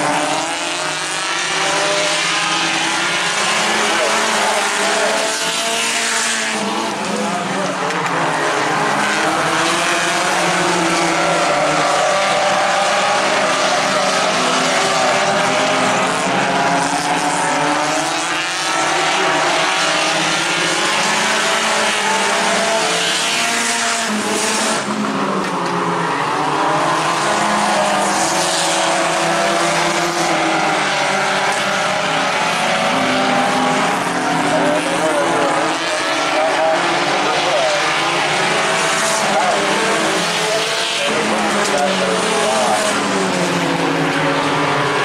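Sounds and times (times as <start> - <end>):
race car engines revving: 0.0 - 45.0.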